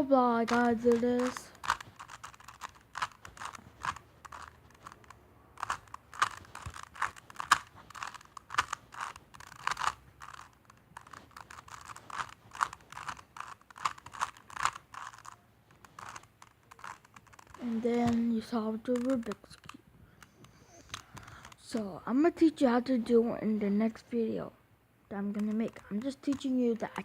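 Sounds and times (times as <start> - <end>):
plastic puzzle cube clicking: 0.3 - 21.8, 25.2 - 27.0.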